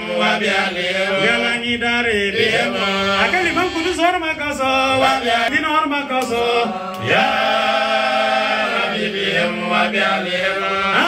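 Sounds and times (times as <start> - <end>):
men chanting into microphones: 0.0 - 11.0.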